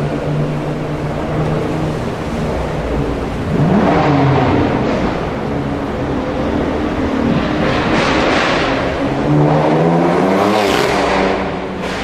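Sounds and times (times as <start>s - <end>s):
sports car engine accelerating: 0.0s - 12.0s.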